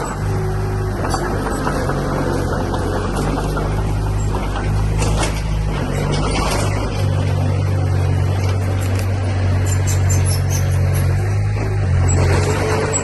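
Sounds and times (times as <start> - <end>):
heavy machinery diesel engine running: 0.0 - 13.0.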